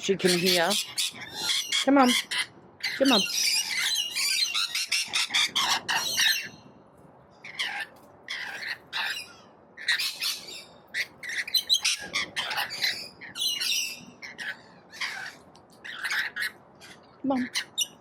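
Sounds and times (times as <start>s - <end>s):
parrots squawking and screeching: 0.1s - 6.6s, 7.4s - 18.0s.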